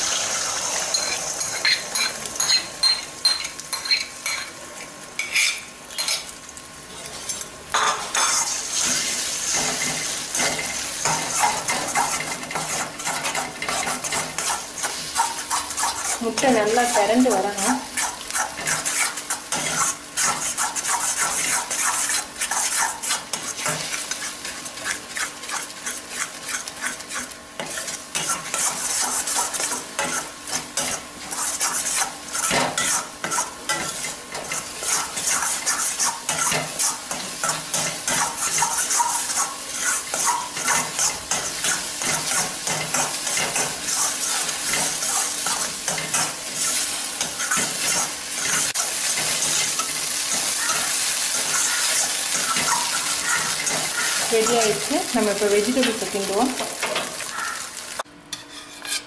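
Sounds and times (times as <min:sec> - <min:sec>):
eggs sizzling in oil: 0:00.0 - 0:07.0, 0:07.6 - 0:58.1
spatula scraping pan: 0:05.2 - 0:06.3, 0:07.0 - 0:57.7, 0:58.3 - 0:59.0.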